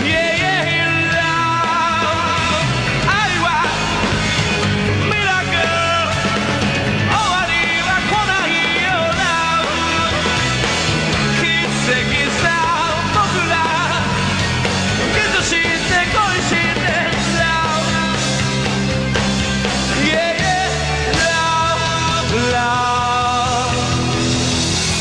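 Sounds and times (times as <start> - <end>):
lead singer vocals: 0.0 - 24.6
live rock band playing: 0.0 - 25.0.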